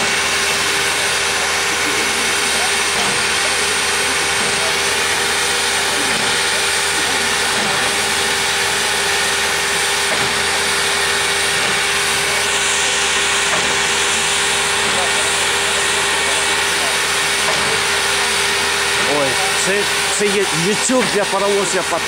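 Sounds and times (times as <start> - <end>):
steam hissing from locomotive: 0.0 - 22.0.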